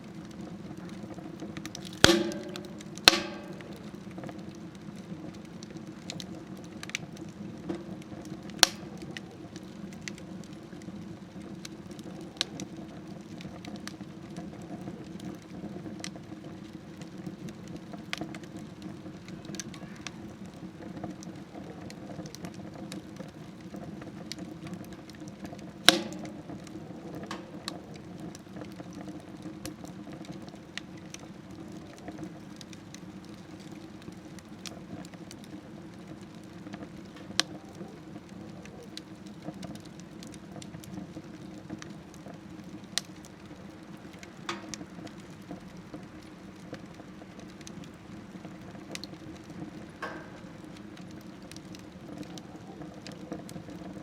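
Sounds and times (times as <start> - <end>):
fire popping: 0.0 - 54.0
firewood crackling: 0.0 - 54.0.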